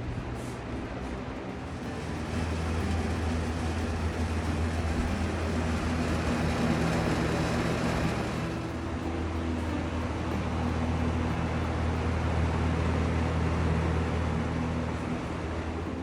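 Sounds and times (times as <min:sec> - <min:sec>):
electric fan running: 0:00.0 - 0:16.0.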